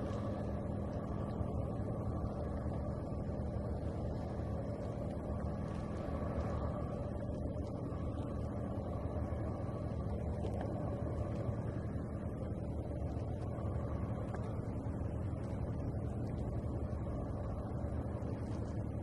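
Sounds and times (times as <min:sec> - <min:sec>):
faint hum: 0:00.0 - 0:19.0
low rumble: 0:00.0 - 0:19.0.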